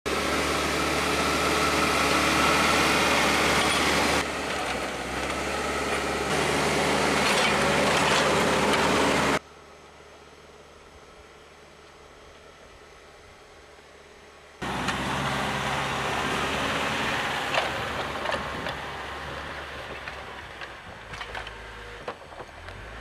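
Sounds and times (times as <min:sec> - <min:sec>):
diesel engine drone: 0:00.1 - 0:23.0.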